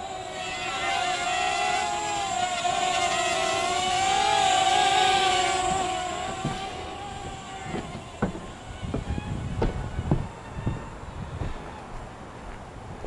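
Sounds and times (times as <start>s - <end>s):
quadcopter propellers whining: 0.0s - 12.2s.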